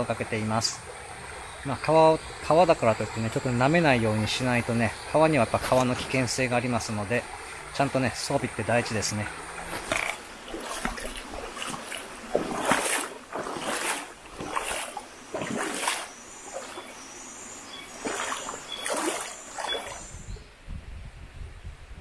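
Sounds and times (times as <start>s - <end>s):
steady background hiss: 0.0s - 10.6s, 11.2s - 20.5s
water splashing in stream: 0.0s - 20.3s.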